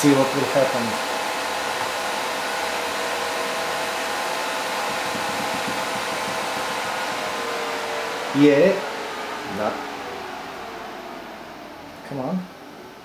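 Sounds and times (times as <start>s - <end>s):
faint steady tones: 0.0s - 13.0s
server cooling fans whooshing: 0.0s - 13.0s.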